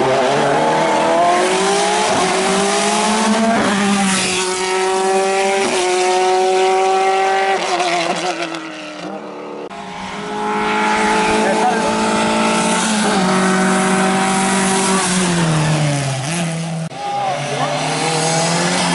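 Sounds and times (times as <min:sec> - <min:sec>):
race car accelerating with upshifts: 0:00.0 - 0:18.9.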